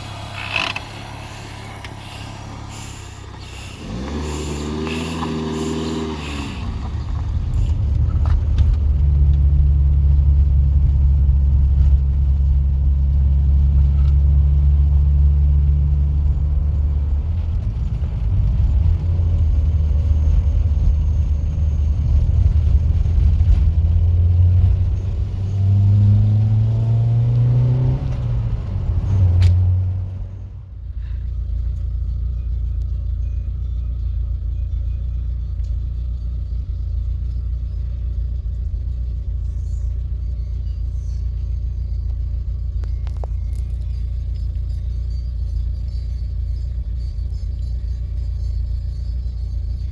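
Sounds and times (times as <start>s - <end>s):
vehicle engine rumbling and revving: 0.0s - 49.9s.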